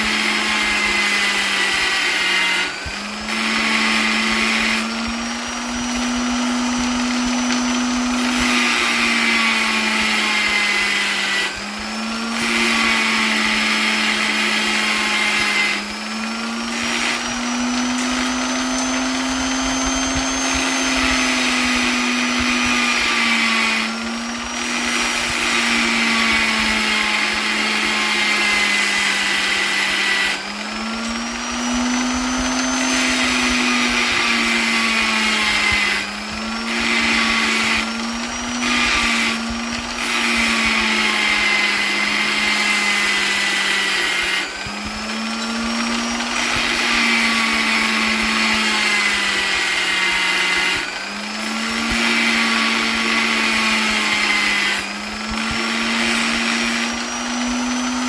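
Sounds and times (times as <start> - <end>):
electric polisher motor whining: 0.0 - 58.0.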